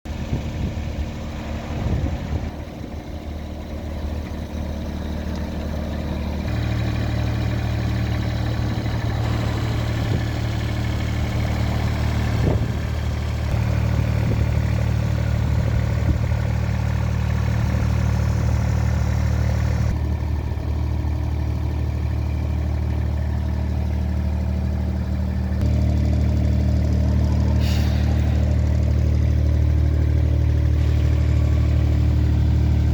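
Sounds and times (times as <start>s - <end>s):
excavator diesel engine running: 0.1s - 32.9s.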